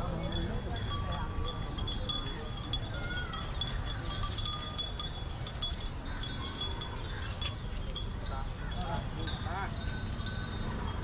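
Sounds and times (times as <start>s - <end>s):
bells and chains jingling: 0.0s - 11.0s.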